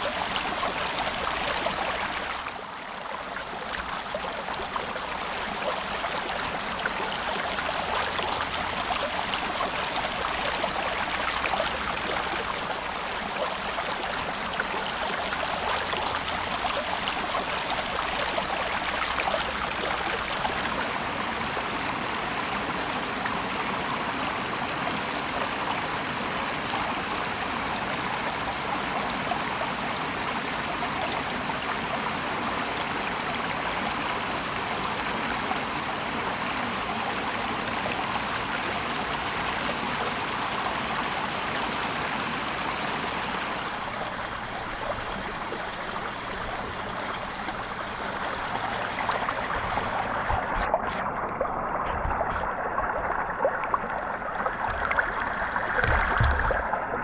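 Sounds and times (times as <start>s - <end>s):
brook running over stones: 0.0s - 57.0s.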